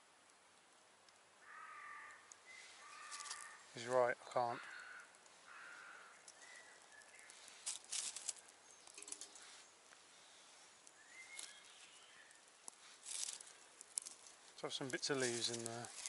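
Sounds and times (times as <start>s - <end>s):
small wood fire crackling: 0.0s - 16.0s
faint birdsong: 1.3s - 16.0s.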